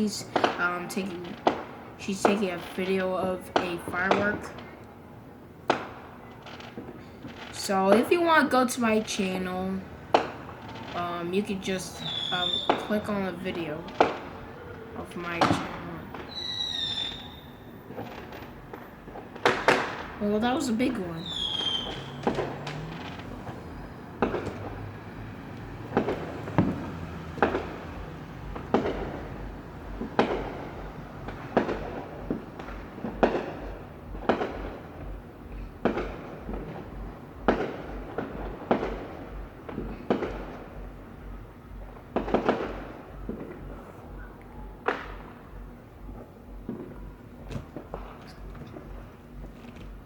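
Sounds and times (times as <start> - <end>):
fireworks exploding: 0.0 - 50.0.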